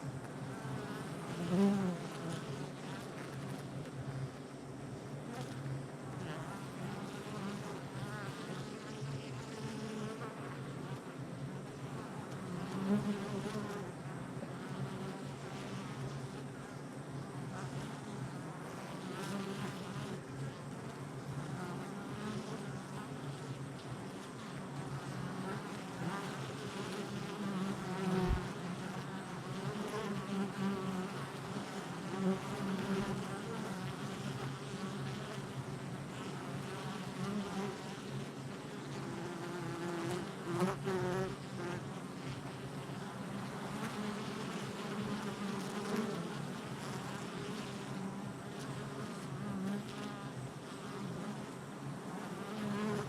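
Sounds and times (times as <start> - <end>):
bees buzzing at hive: 0.0 - 53.0
bee flying close past: 0.2 - 4.4, 5.2 - 16.6, 17.4 - 53.0.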